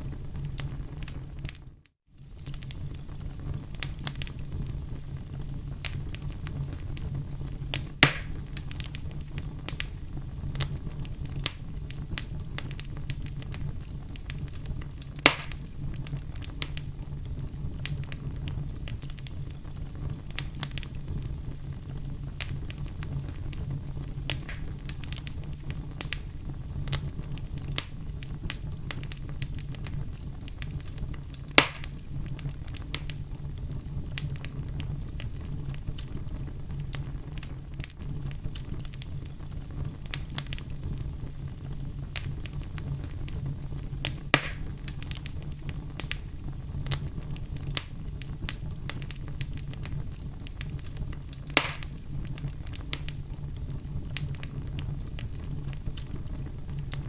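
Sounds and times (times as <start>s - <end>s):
fire popping: 0.0s - 57.0s
wood fire crackling: 0.0s - 57.0s.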